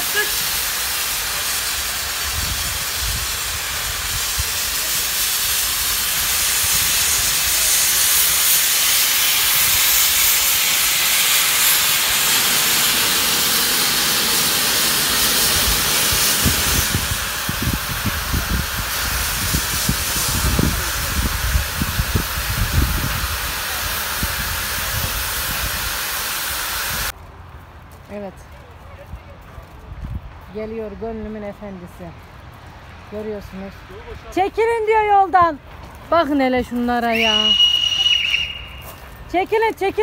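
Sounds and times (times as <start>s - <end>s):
steam locomotive hissing: 0.0s - 27.2s, 30.6s - 40.0s.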